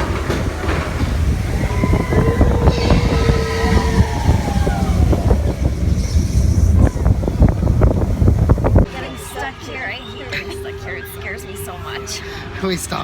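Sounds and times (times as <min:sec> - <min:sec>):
squealing wheel tones: 0:00.0 - 0:12.4
roller coaster rumble and clattering: 0:00.0 - 0:13.0.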